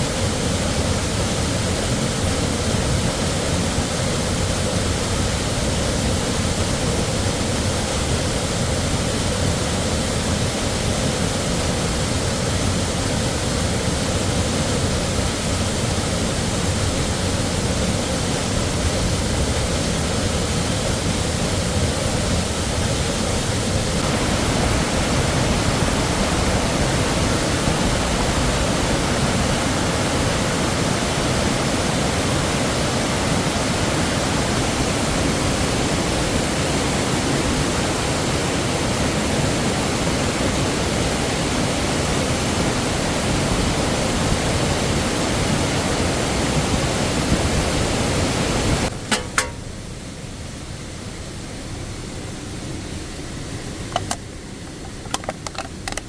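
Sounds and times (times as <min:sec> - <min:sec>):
waterfall roaring: 0:00.0 - 0:49.5.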